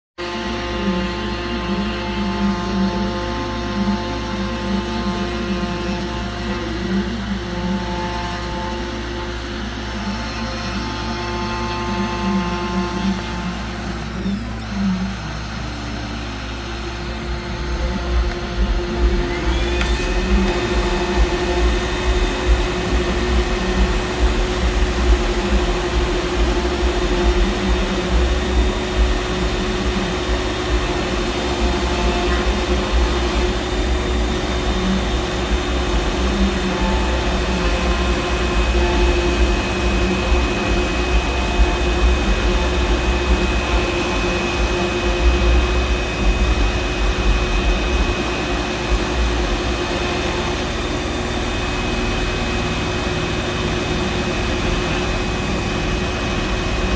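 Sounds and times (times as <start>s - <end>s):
cnc router spindle spinning: 0.2s - 56.9s.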